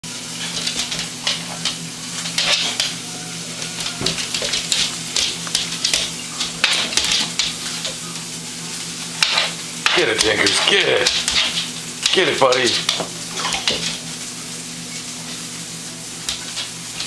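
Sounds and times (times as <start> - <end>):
dog pawing scratches: 0.2 - 15.5.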